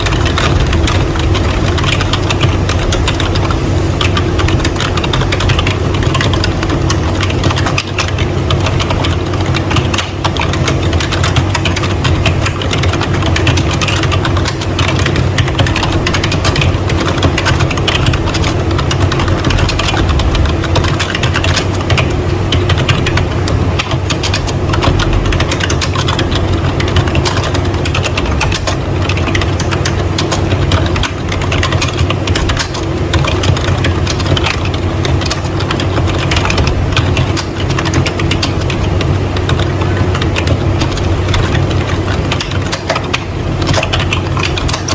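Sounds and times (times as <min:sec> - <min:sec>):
rapid keyboard typing: 0:00.0 - 0:44.9
steady low hum: 0:00.0 - 0:44.9.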